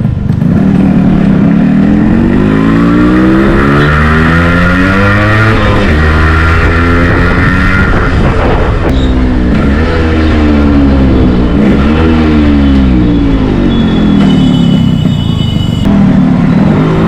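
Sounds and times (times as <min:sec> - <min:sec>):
two-stroke motorcycle accelerating: 0:00.0 - 0:17.0.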